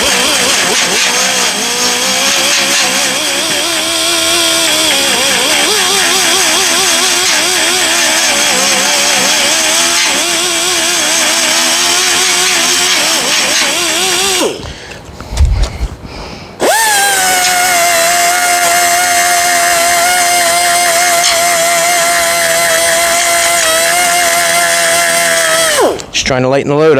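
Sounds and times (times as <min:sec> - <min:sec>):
orbital sander whining: 0:00.0 - 0:15.1, 0:16.6 - 0:26.2.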